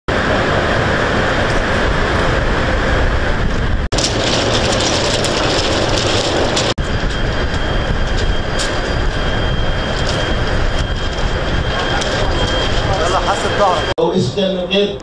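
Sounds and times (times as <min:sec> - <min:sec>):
loud steady rushing noise: 0:00.1 - 0:15.0.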